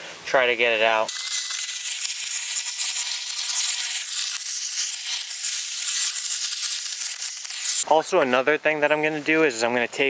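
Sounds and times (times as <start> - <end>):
steady hiss: 0.0 - 8.4.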